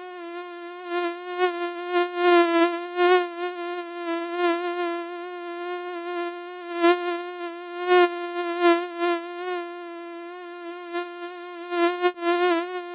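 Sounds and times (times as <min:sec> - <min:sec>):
mosquito buzzing whine: 0:00.0 - 0:12.9.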